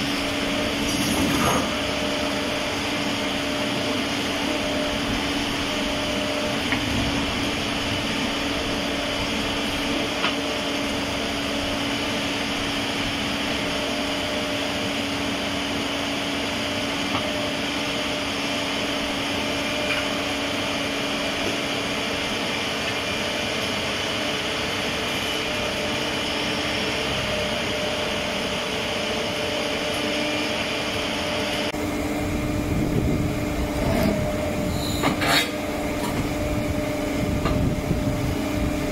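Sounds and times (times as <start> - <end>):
excavator mechanical drone: 0.0 - 38.9.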